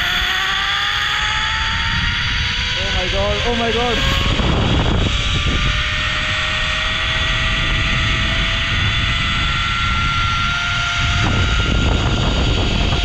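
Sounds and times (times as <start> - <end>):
wind rush on microphone: 0.0 - 13.0
zipline pulleys whining on cable: 0.0 - 13.0.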